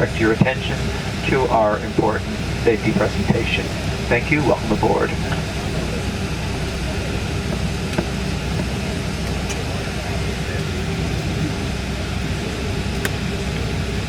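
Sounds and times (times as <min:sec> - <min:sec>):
cabin ventilation hum: 0:00.0 - 0:14.0.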